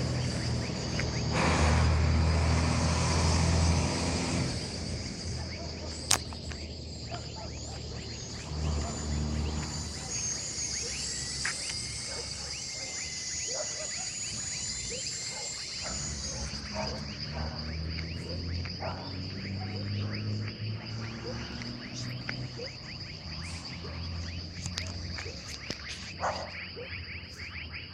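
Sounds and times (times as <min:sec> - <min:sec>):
low hum: 0:00.0 - 0:27.8
high-pitched insect buzz: 0:00.0 - 0:27.9
insect chirps: 0:00.0 - 0:27.9.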